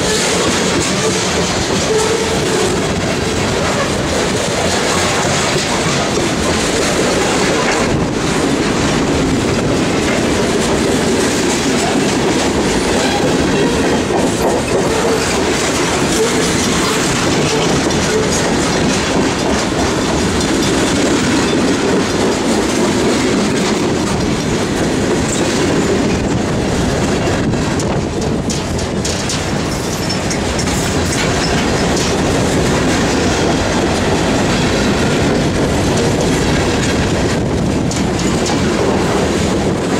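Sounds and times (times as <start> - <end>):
railroad cars rumbling past: 0.0 - 39.9
wheels clicking over rail joints: 0.0 - 39.9.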